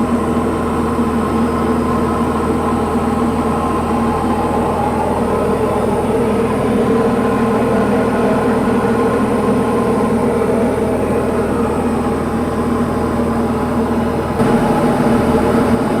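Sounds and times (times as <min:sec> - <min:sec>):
aircraft engine droning: 0:00.0 - 0:16.0.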